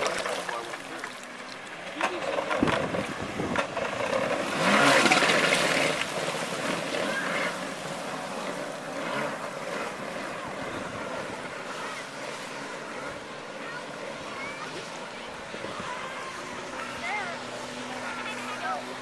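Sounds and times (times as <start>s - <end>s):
jet ski running on water: 0.0s - 19.0s.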